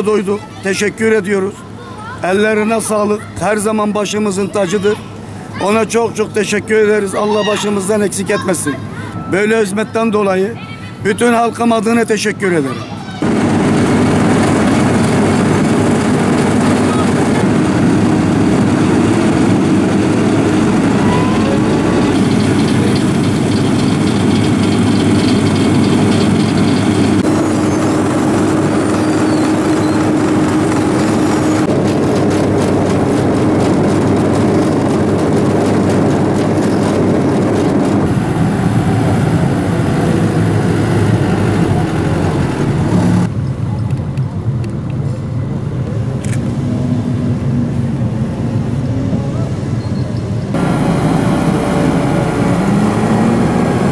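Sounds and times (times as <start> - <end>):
diesel engines of road machines: 0.0 - 53.9.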